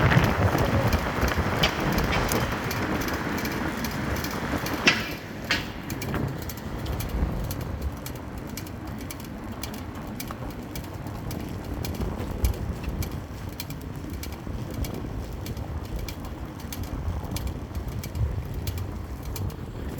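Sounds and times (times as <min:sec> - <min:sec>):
light sharp ticking: 0:00.0 - 0:19.6
steady low rumble: 0:00.0 - 0:19.9.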